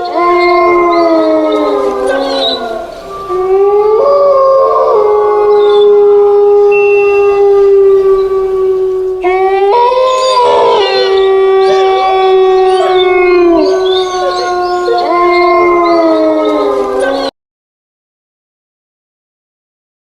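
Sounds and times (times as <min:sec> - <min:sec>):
animals howling together: 0:00.0 - 0:17.3.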